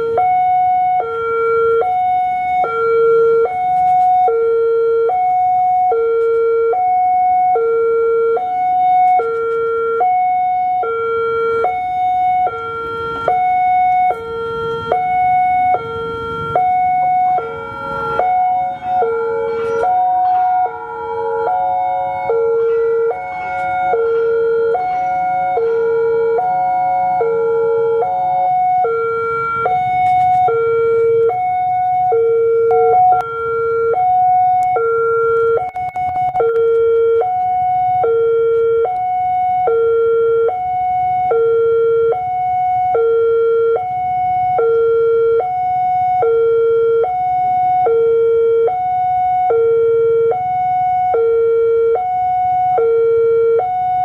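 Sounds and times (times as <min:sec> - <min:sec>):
steady multi-tone signal: 0:00.0 - 0:54.0
two-tone crossing alarm: 0:00.0 - 0:54.0.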